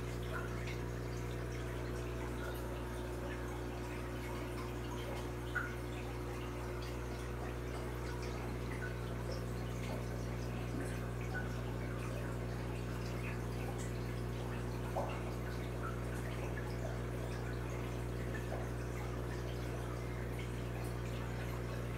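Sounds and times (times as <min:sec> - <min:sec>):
aquarium air stones bubbling: 0:00.0 - 0:21.9
water drips and plops: 0:00.0 - 0:21.9.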